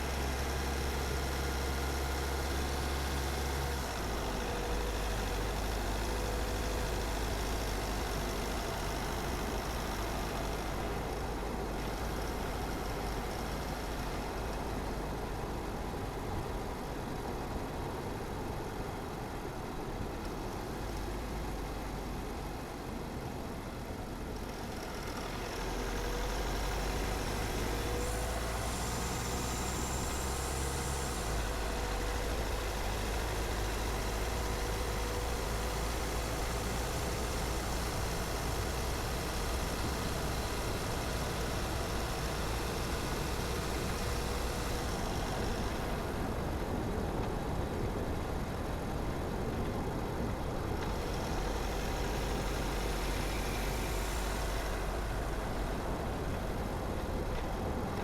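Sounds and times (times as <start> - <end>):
car engine and road noise: 0.0 - 58.0
faint steady whine: 0.0 - 58.0.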